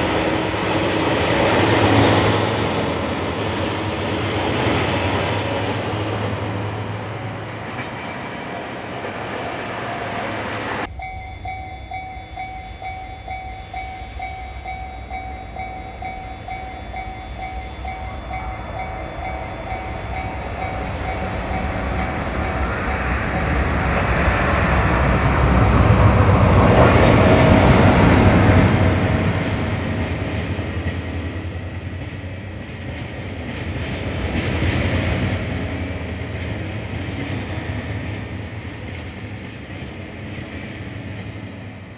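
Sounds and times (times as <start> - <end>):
crossing warning bell ringing: 0.0 - 23.6, 25.0 - 41.9
freight train rumbling past: 0.0 - 41.9.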